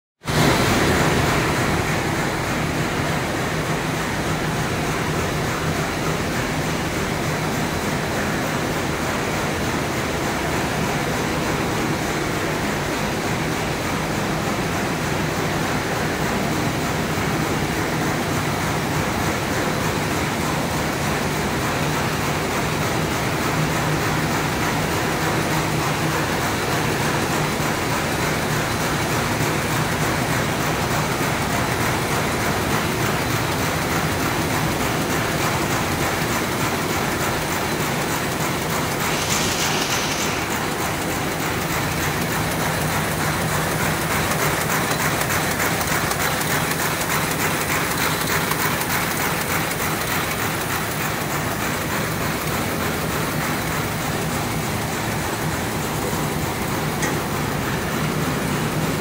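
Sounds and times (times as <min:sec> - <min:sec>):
machines clattering: 0:00.3 - 0:59.0.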